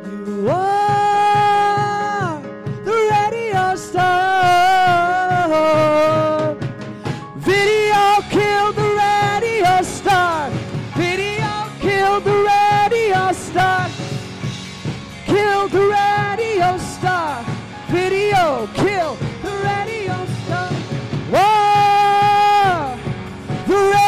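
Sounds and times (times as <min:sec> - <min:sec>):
sliding lead melody: 0:00.0 - 0:24.0
drum beat: 0:00.5 - 0:24.0.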